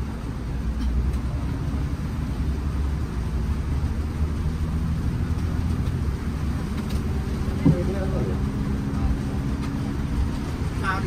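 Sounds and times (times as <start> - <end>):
bus engine rumble: 0.0 - 11.0
tyres hissing on wet road: 0.0 - 11.0.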